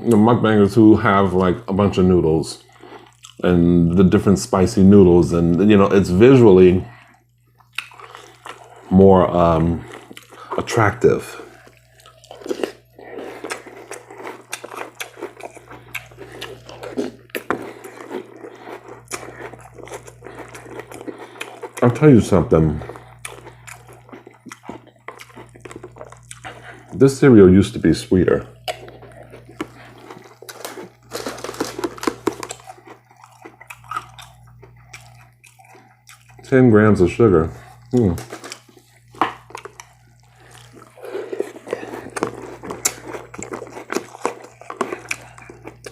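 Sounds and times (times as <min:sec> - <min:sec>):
chewing crunchy cereal: 0:00.0 - 0:45.9
steady low hum: 0:00.0 - 0:45.9.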